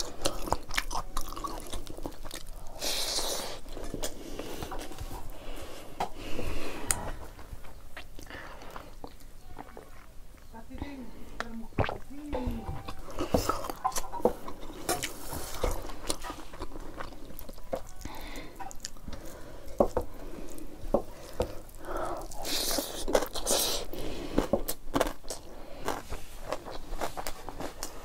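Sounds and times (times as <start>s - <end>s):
close chewing with wet crunches: 0.0s - 28.0s.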